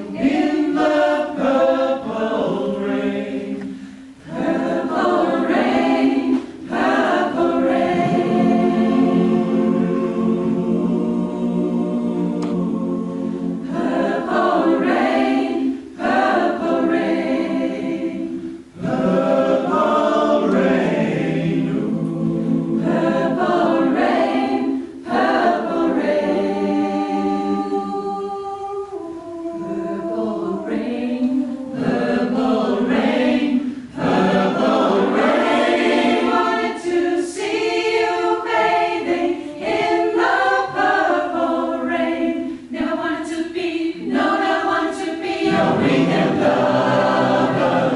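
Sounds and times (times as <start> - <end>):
choir singing: 0.0 - 47.9.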